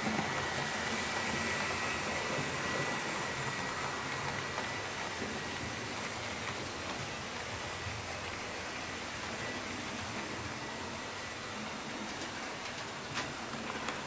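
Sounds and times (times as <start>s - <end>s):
model train wheels on rails: 0.0s - 14.0s.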